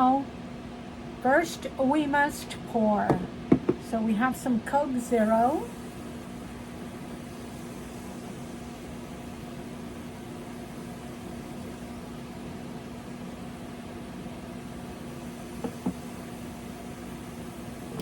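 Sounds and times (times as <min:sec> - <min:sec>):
appliance humming: 0:00.0 - 0:18.0.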